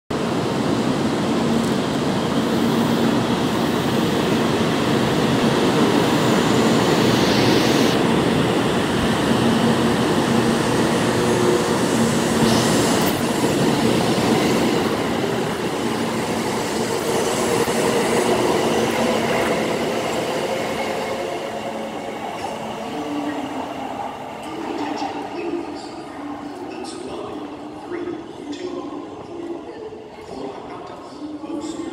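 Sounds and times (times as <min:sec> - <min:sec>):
train rushing past: 0:00.2 - 0:29.0.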